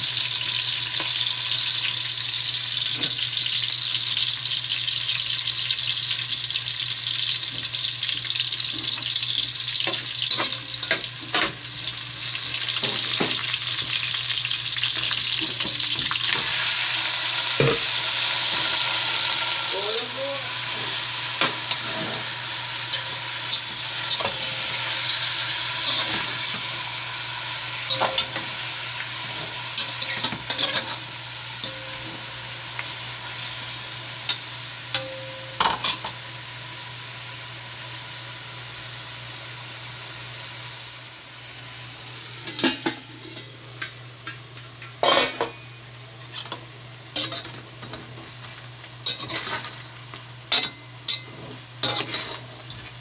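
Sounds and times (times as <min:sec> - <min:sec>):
chicken sizzling in a pot: 0:00.0 - 0:53.0.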